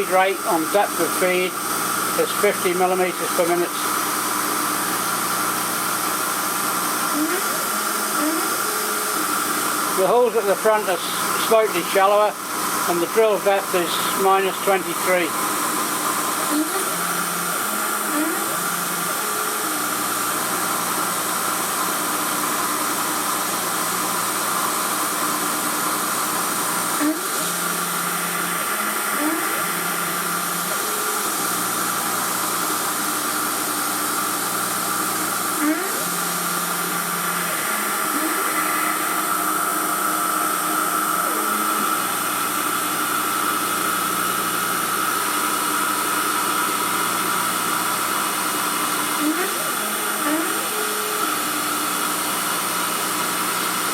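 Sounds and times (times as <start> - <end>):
milling machine spindle whining: 0.0 - 53.9.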